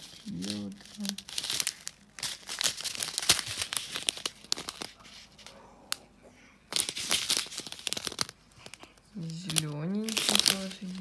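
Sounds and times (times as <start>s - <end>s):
plastic bags crinkling: 0.0s - 5.5s, 6.7s - 11.0s.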